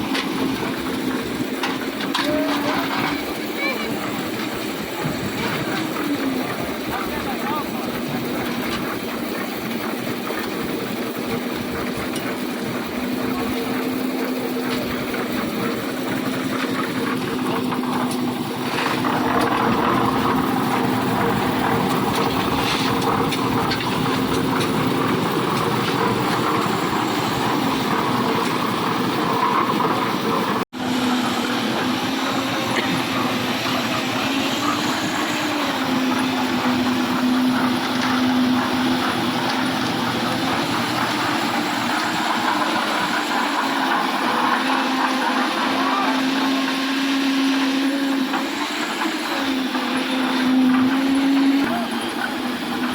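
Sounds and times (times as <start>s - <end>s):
concrete mixer engine humming: 0.0s - 52.9s
rough churning noise: 0.0s - 52.9s.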